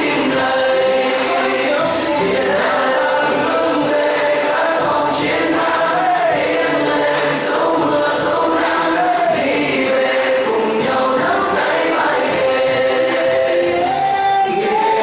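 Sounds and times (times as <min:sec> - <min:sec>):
choir singing with music: 0:00.0 - 0:15.0.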